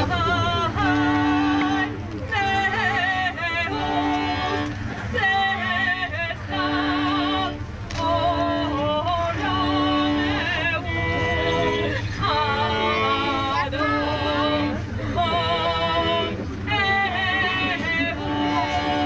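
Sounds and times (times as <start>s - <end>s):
long held accompanying tones: 0.0s - 19.0s
person singing with vibrato: 0.0s - 19.0s
steady low rumble: 0.0s - 19.0s.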